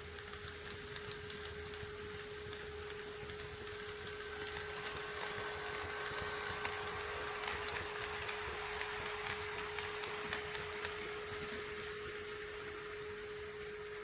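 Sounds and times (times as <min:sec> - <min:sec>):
electrical hum with high whine: 0:00.0 - 0:14.0
model train motor and wheels: 0:00.0 - 0:14.0.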